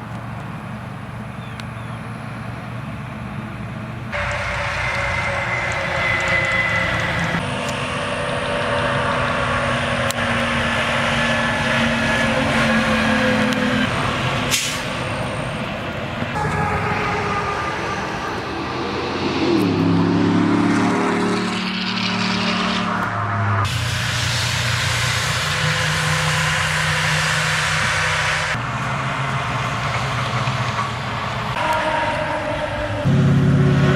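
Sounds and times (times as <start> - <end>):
diesel truck engine: 0.0 - 33.9.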